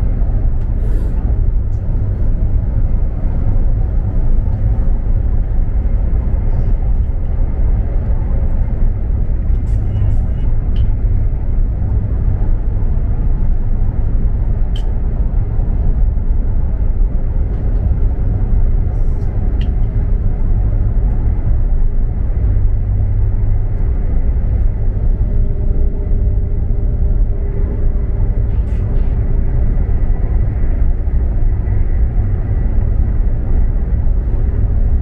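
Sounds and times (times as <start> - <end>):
faint steady hum: 0.0 - 35.0
train low rumble: 0.0 - 35.0.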